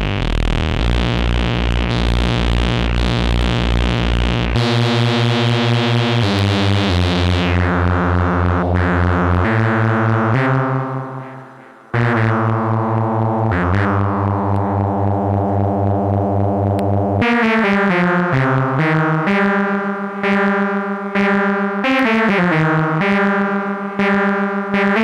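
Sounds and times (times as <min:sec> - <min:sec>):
synthesizer bass notes: 0:00.0 - 0:25.0.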